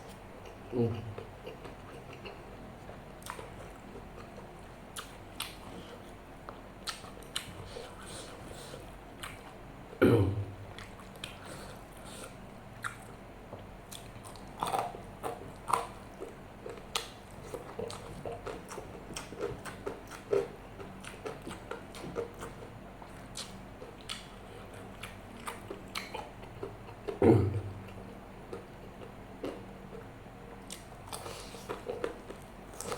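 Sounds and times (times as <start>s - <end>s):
chewing and biting food: 0.4s - 9.6s, 13.9s - 32.9s.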